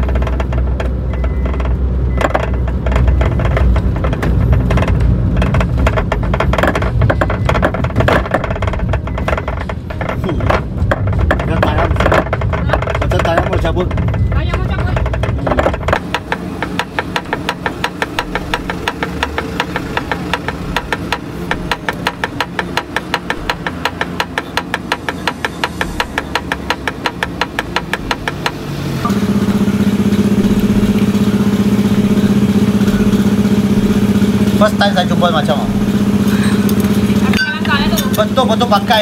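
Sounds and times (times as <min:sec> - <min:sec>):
car engine with loud exhaust: 0:00.0 - 0:39.0
regular ticking: 0:00.0 - 0:39.0.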